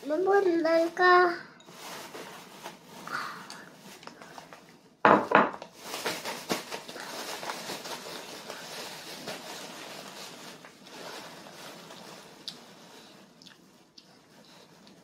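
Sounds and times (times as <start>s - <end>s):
soft steady noise: 0.0s - 15.0s.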